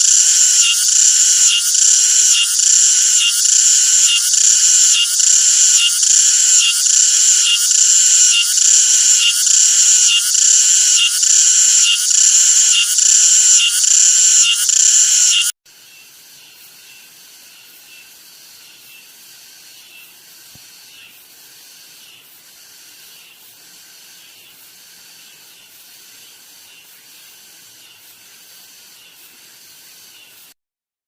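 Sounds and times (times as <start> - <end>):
cicadas buzzing: 0.0 - 30.6.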